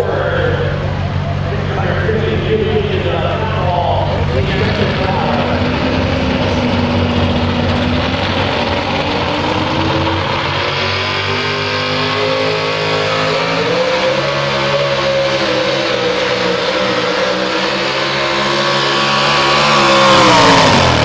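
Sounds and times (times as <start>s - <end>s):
supercharged truck engine revving: 0.0s - 21.0s.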